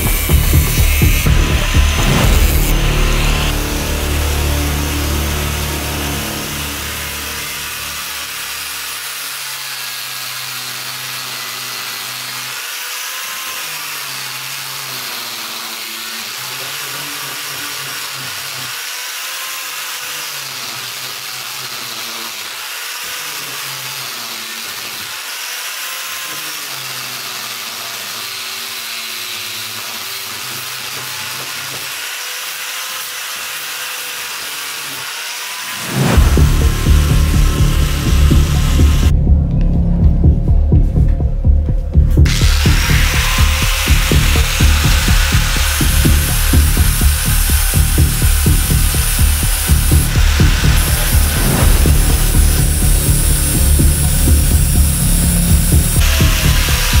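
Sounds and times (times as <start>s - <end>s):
angle grinder grinding steel: 0.0s - 57.0s.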